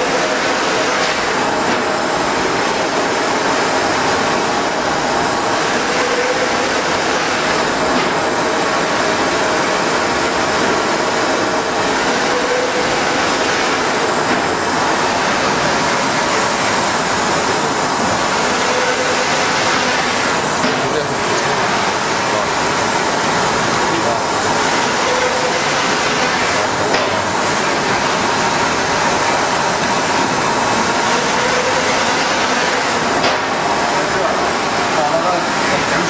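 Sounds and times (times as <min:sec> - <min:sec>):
printer carriage moving: 0:00.0 - 0:36.0.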